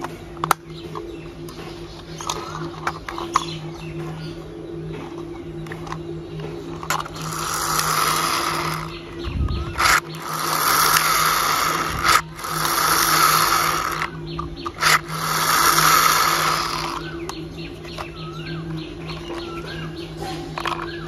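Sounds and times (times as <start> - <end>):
steady low hum: 0.0 - 21.0
toy motor whirring: 2.0 - 3.7, 5.5 - 21.0.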